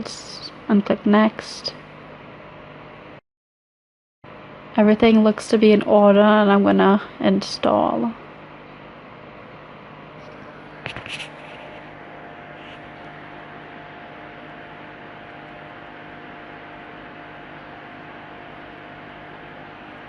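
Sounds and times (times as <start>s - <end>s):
faint electrical hum: 0.0s - 3.2s, 4.3s - 20.0s.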